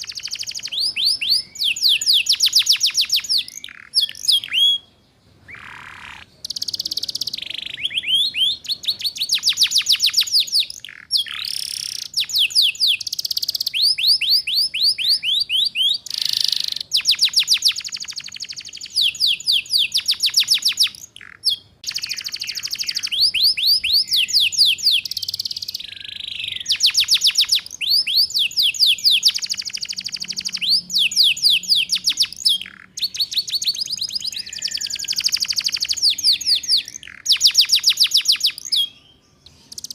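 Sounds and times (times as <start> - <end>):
canary singing in fast trills: 0.0 - 39.9.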